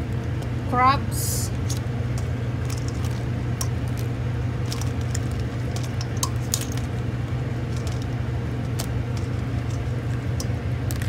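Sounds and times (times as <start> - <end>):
steady low hum: 0.0 - 11.0
crab shells clicking on pot: 1.5 - 11.0.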